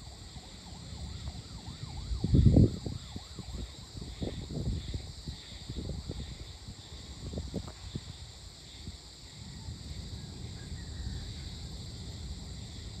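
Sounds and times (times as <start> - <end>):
crickets and insects trilling: 0.0 - 13.0.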